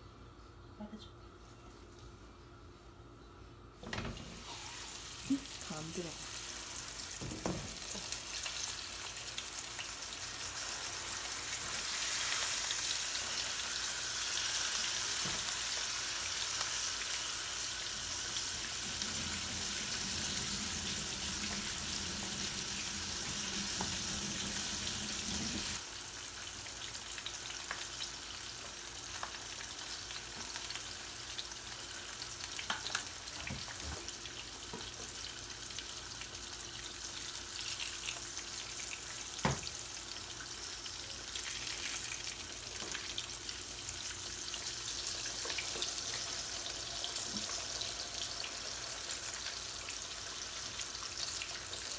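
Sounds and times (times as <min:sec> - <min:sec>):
food sizzling in a pan: 0:04.3 - 0:51.9.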